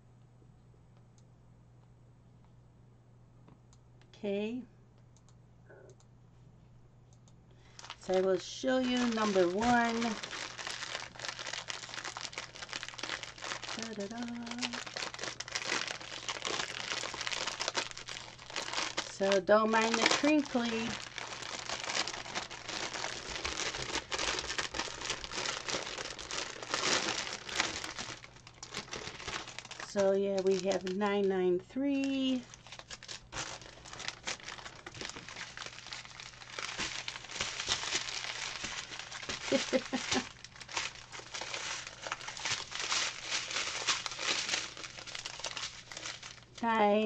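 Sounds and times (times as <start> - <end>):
plastic wrapping crinkling: 7.6 - 47.0.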